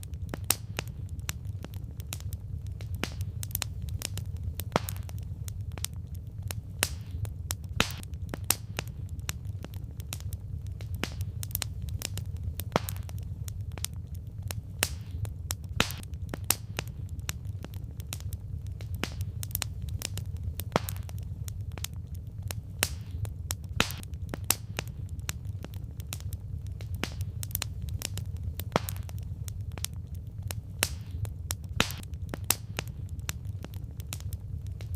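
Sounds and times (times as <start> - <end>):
low rumble: 0.0 - 34.9
wood fire crackling and popping: 0.0 - 34.9.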